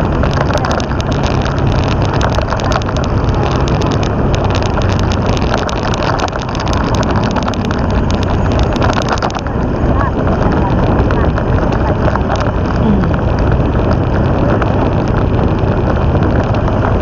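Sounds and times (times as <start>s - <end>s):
dense clicking rattle: 0.0s - 17.0s
motorcycle engine hum: 0.0s - 17.0s
wind on microphone: 0.0s - 17.0s.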